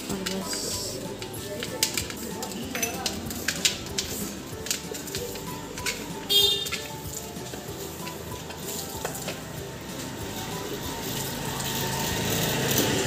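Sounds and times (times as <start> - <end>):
milk squirting into metal pot: 0.0 - 13.0.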